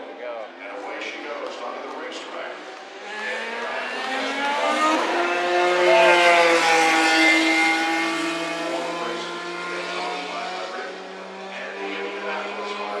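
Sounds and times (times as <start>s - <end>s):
race car passing at speed: 1.1s - 13.0s.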